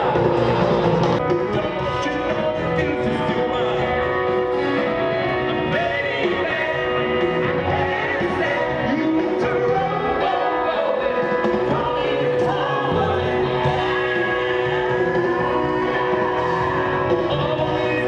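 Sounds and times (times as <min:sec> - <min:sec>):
live rock music with singing: 0:00.0 - 0:18.0.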